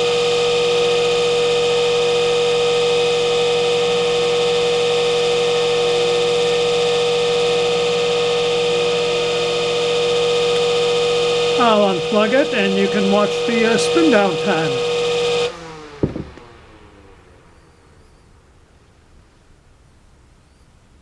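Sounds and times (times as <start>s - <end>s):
table fan motor humming: 0.0s - 18.0s.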